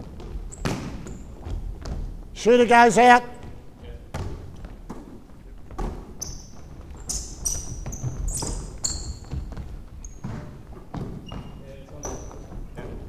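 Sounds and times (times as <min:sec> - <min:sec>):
basketball bouncing: 0:00.0 - 0:02.2, 0:03.4 - 0:13.0
shoes squeaking on hardwood: 0:00.0 - 0:02.3, 0:03.3 - 0:13.0.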